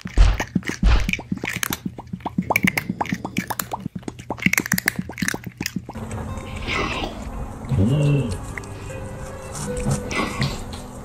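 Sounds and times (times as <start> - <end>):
loud chewing and crunching: 0.0 - 10.8.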